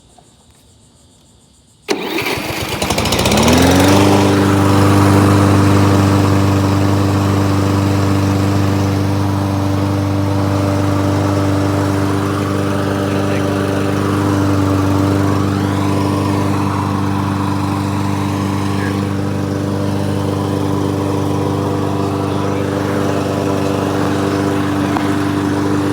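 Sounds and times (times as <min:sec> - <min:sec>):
lawnmower engine starting and running: 0:01.9 - 0:25.9.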